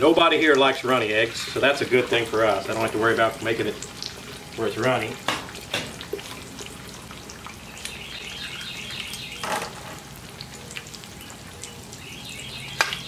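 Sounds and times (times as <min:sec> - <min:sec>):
eggs sizzling on hot metal: 0:00.0 - 0:13.0.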